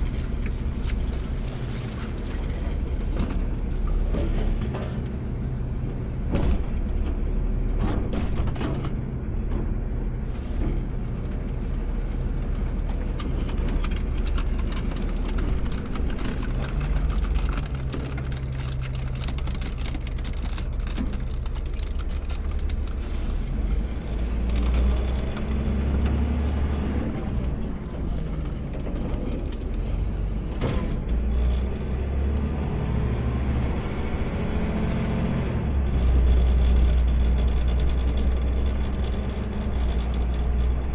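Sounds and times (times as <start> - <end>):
garbage truck engine running: 0.0 - 40.9.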